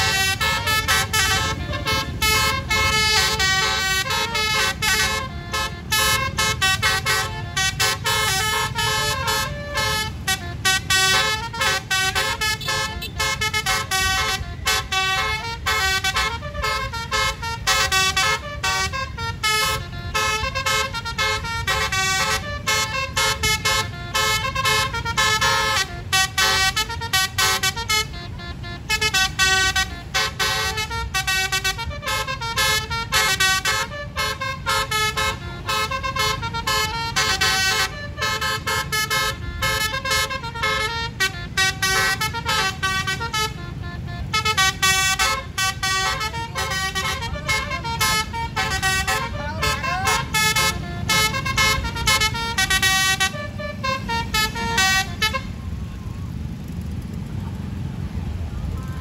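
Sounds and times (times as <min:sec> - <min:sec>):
bus multi-tone horn melody: 0:00.0 - 0:56.6
low rumble of engines and traffic: 0:00.0 - 0:59.0.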